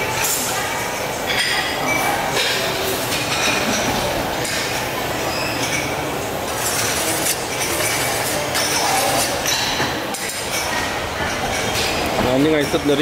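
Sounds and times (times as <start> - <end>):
dishes and spoons clinking: 0.0 - 13.0
restaurant clatter and hubbub: 0.0 - 13.0.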